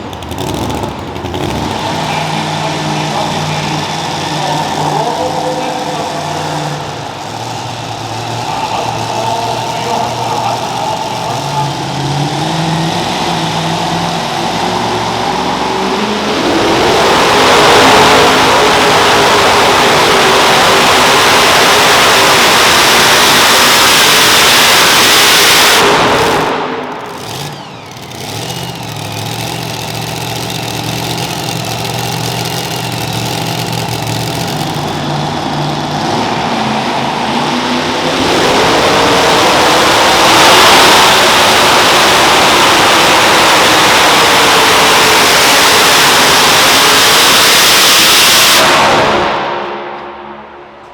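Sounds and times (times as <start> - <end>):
truck engine roaring: 0.0 - 50.9.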